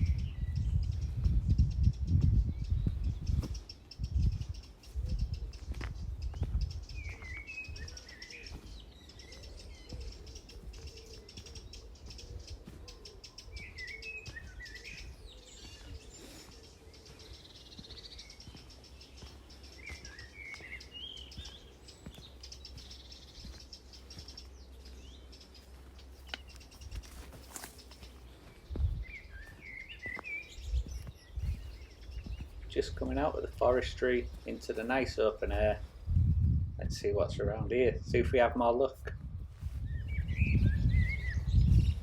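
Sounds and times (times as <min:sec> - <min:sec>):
songbirds chirping: 0:00.0 - 0:42.0.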